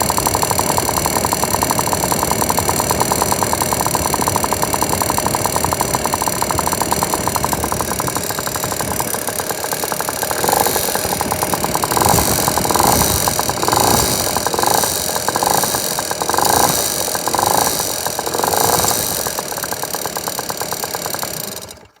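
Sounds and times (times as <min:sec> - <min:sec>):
scooter engine ticking: 0:00.0 - 0:22.0
scooter throttle blips: 0:00.0 - 0:22.0.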